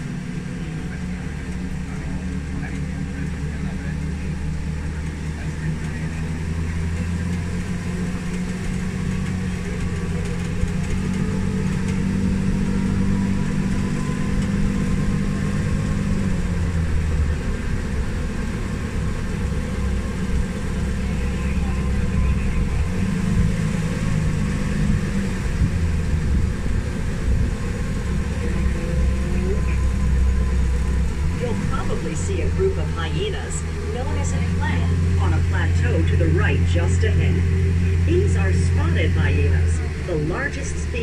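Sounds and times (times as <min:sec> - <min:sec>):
tram motor humming: 0:00.0 - 0:41.0.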